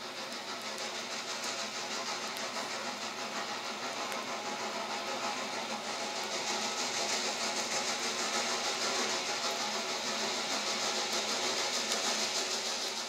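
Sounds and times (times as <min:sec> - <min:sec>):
steam locomotive hissing with beat: 0:00.0 - 0:13.0.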